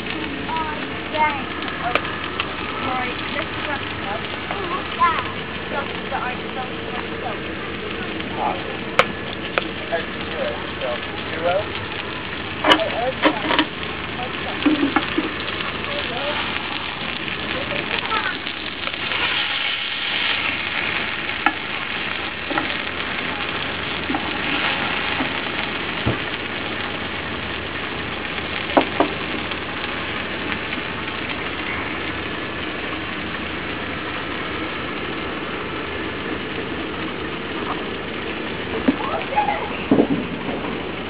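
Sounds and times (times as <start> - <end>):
sharp pops: 0.0 - 39.2
meat sizzling in a pan: 0.0 - 41.0.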